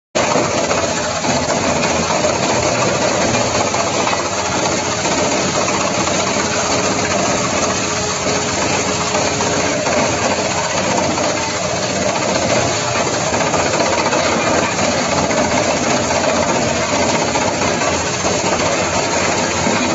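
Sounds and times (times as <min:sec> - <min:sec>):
wood chipper chewing up wood: 0:00.2 - 0:19.9.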